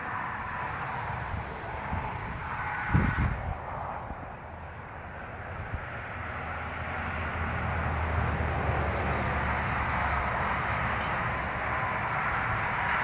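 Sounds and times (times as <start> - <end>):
vehicle rumble with low hum: 0.0 - 13.0.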